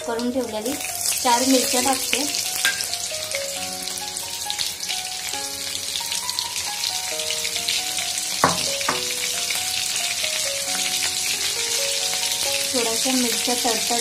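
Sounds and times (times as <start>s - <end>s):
background music: 0.0s - 14.0s
spices sizzling in hot oil: 0.0s - 14.0s.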